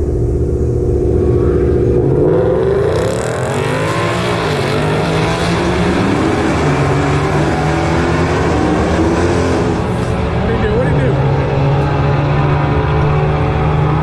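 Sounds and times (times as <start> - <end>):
drag cars accelerating: 0.0 - 14.0.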